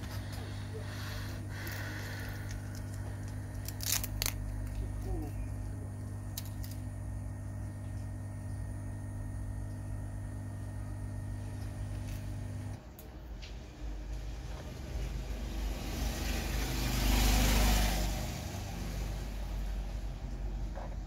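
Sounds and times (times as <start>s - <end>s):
low electrical hum: 0.0s - 17.2s.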